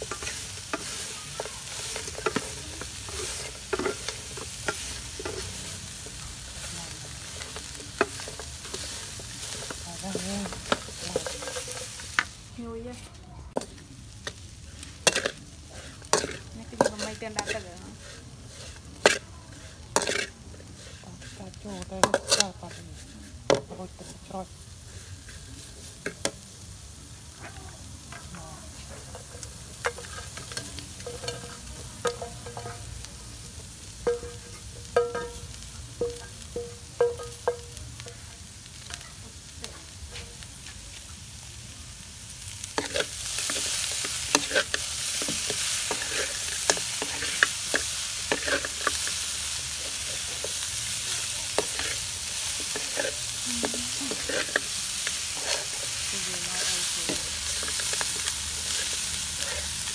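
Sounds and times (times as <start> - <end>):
metal spatula scraping wok: 0.0 - 26.4, 28.0 - 38.1, 42.6 - 59.9
chicken sizzling: 0.0 - 59.9.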